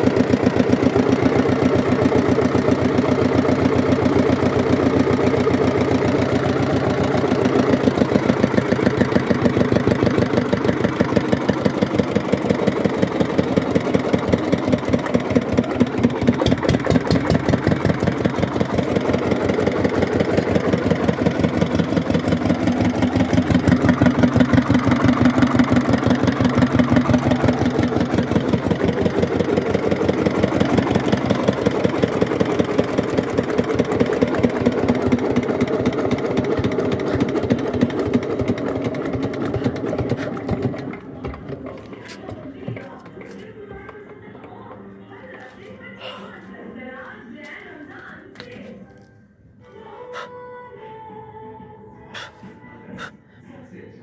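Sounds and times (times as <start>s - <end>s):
diesel engine running: 0.0s - 46.7s.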